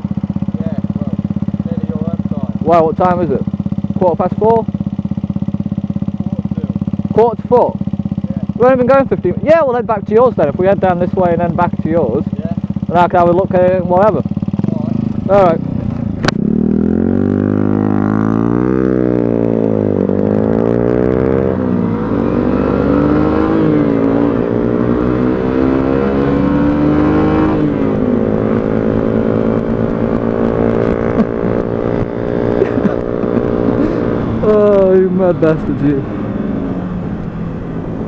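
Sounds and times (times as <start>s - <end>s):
motorcycle engine accelerating: 0.0s - 38.0s
wind and road noise: 0.0s - 38.0s.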